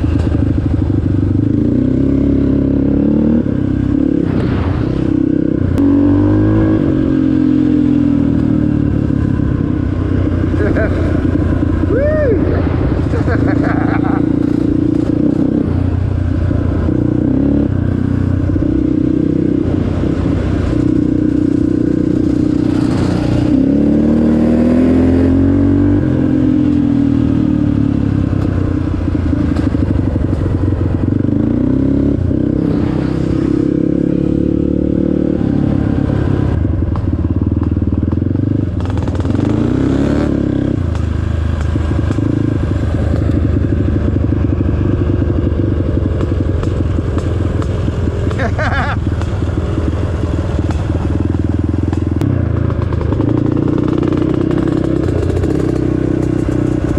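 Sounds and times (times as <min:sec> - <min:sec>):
off-road vehicle engine revving: 0:01.3 - 0:30.5, 0:31.1 - 0:36.6, 0:38.6 - 0:44.1, 0:46.2 - 0:56.9.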